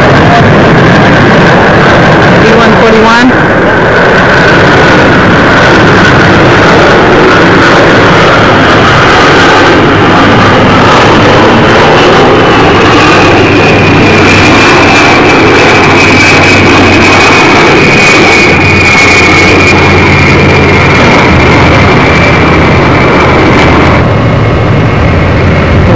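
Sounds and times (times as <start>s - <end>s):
jet airliner passing overhead: 0.0s - 25.9s.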